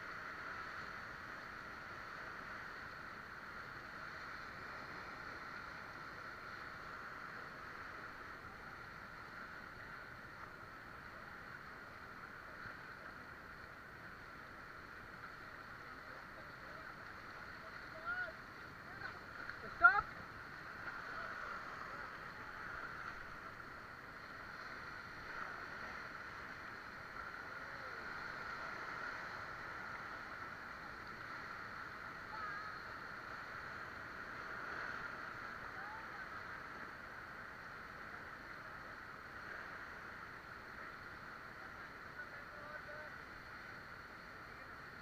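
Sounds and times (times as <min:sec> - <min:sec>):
river rapids rushing: 0:00.1 - 0:45.0.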